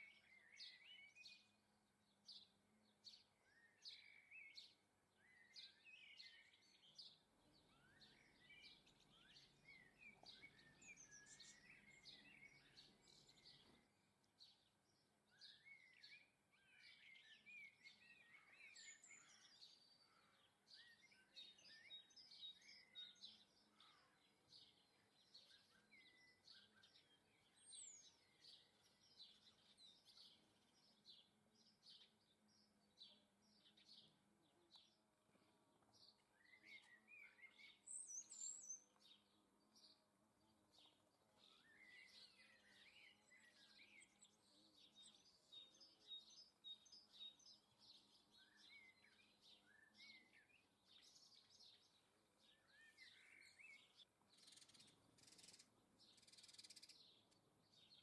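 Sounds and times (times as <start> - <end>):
songbirds chirping and warbling: 0.0 - 58.0.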